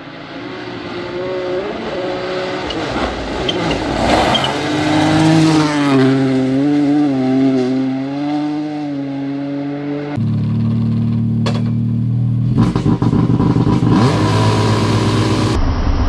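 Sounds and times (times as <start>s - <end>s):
rally car engine revving: 0.0s - 15.6s.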